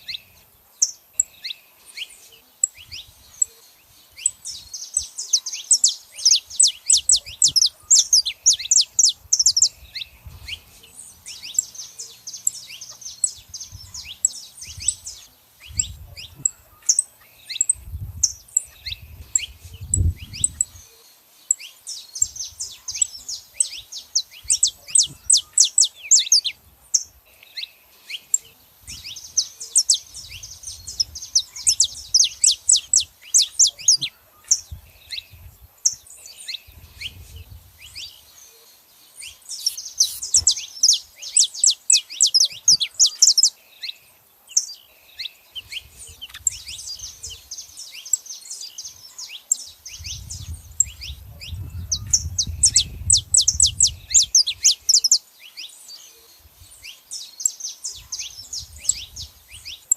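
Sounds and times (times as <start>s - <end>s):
finches chirping: 0.0s - 59.9s.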